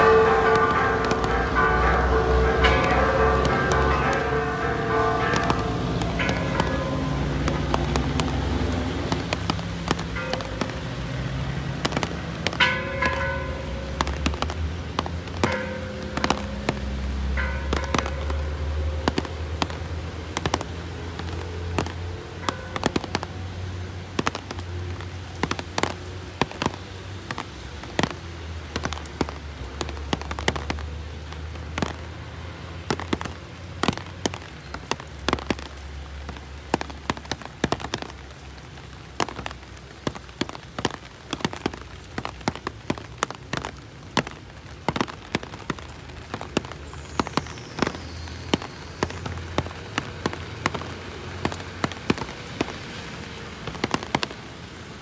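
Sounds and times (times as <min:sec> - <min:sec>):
raindrops hitting close: 0:00.0 - 0:55.0
steady rain patter: 0:00.0 - 0:55.0.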